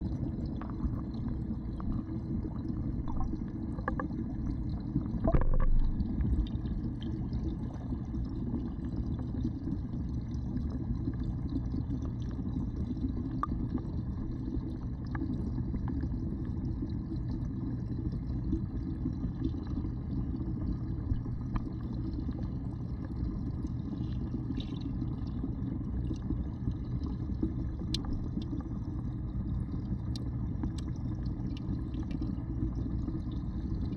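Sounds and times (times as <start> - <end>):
muffled underwater waterfall rumble: 0.0 - 33.9.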